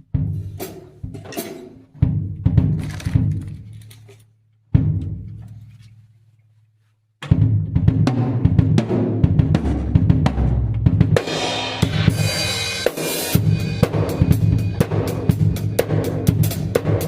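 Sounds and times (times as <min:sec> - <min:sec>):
drum kit playing: 0:00.0 - 0:03.7, 0:04.8 - 0:05.6, 0:07.2 - 0:17.0.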